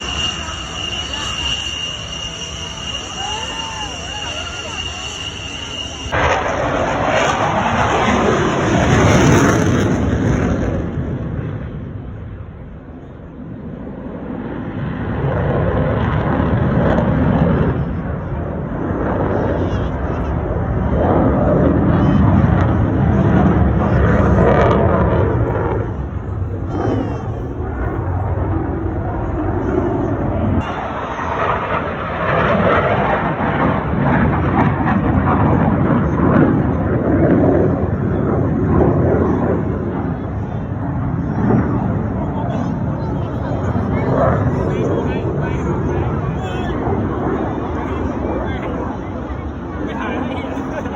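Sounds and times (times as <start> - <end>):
fighter jet engine roar: 0.0 - 50.9.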